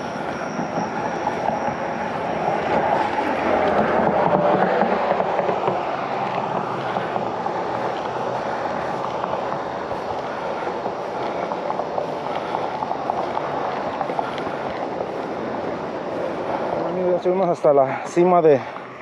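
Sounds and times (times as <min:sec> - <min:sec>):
bike tyres and drivetrain rolling: 0:00.0 - 0:19.0.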